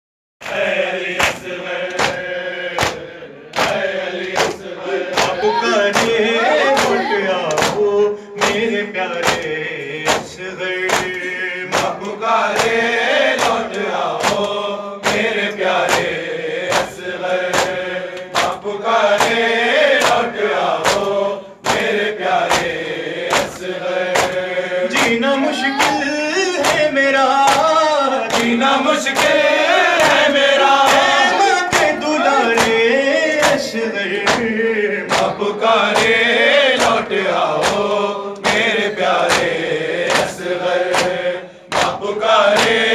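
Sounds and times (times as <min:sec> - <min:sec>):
crowd chanting in unison: 0:00.4 - 0:42.9
men reciting into a microphone: 0:00.4 - 0:42.9.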